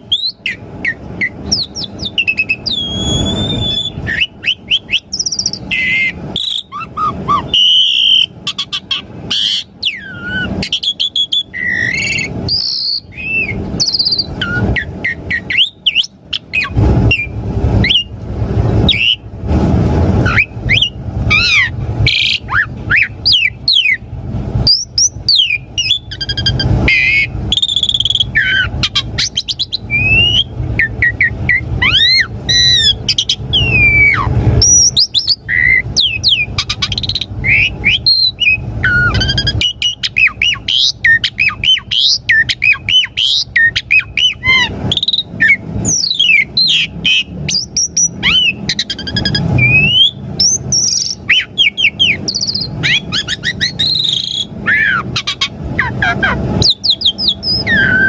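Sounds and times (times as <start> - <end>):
starling singing varied song: 0.0 - 19.3, 20.1 - 58.0
low hum: 0.0 - 58.0.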